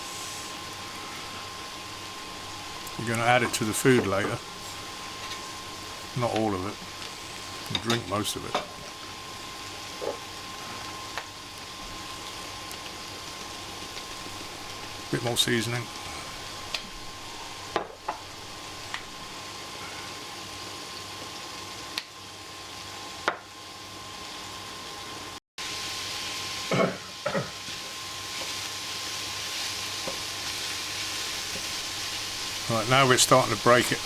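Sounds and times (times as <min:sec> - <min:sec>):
meat sizzling in a pan: 0:00.0 - 0:34.0.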